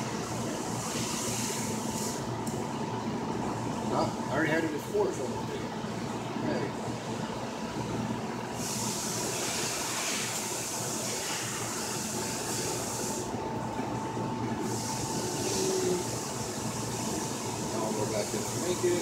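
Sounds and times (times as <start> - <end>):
faint constant hum: 0.0 - 19.0.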